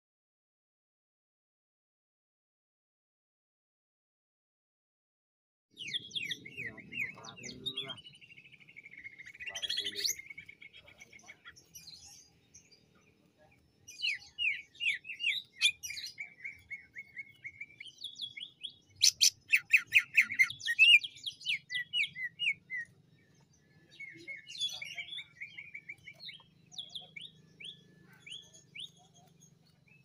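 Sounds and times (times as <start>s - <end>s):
bird singing chattering song: 5.7s - 30.0s.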